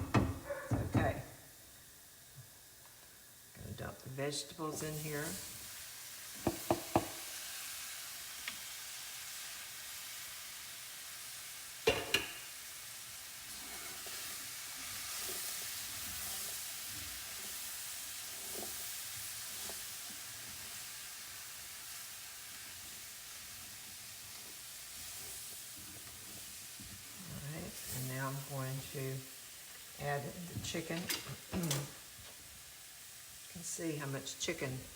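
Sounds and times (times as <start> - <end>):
vegetables sizzling in a pan: 0.0 - 34.9.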